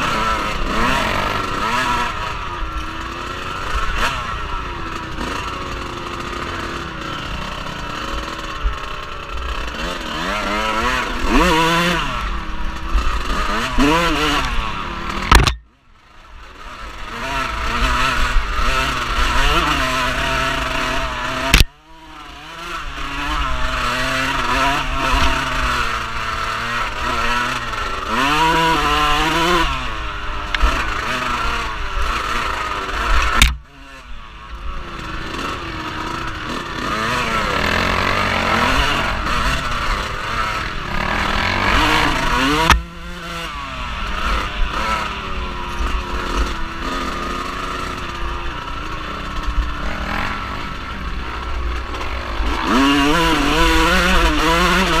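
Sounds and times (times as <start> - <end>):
off-road vehicle engine revving: 0.0 - 15.6, 16.5 - 55.0.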